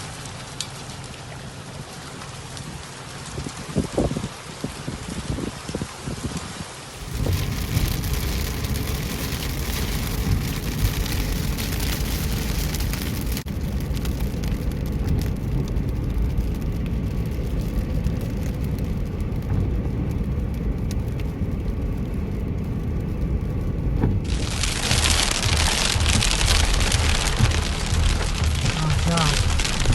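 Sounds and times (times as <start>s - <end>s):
car engine and tyres rumbling: 0.0s - 29.9s
rain on a car: 0.0s - 29.9s.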